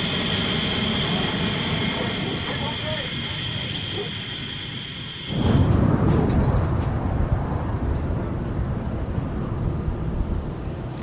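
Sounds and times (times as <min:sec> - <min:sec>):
jet engine low rumble: 0:00.0 - 0:11.0
jet engine whine: 0:00.0 - 0:11.0.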